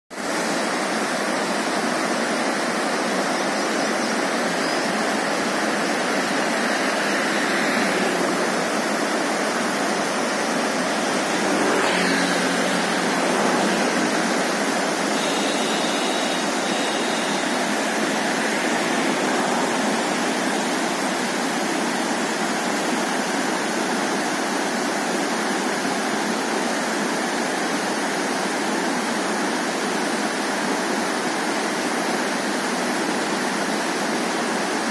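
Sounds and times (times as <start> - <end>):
river rushing over stones: 0.2 - 34.9.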